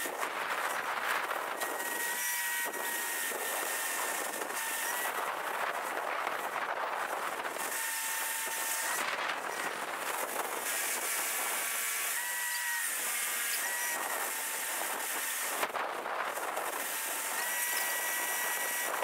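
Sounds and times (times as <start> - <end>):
thin whining tone: 0.0 - 19.0.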